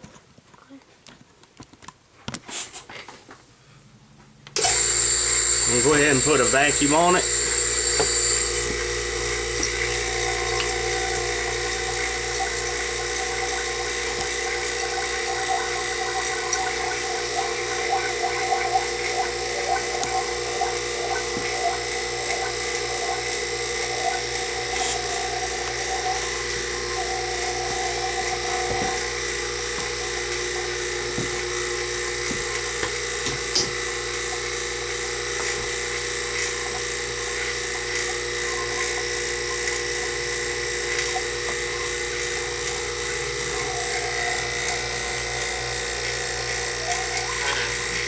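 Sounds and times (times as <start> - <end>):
electric vacuum pump running: 4.5 - 48.0.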